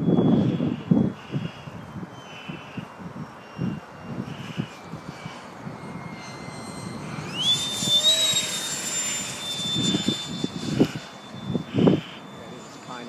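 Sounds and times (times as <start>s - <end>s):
electric ducted fan whining: 0.0s - 13.0s
wind rumbling on microphone: 0.0s - 13.0s.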